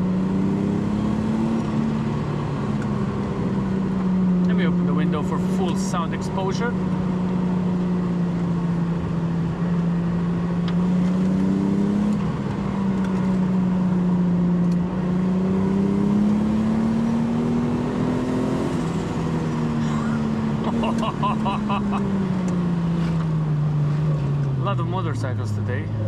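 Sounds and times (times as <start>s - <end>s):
car engine running: 0.0s - 26.0s
road and wind noise: 0.0s - 26.0s.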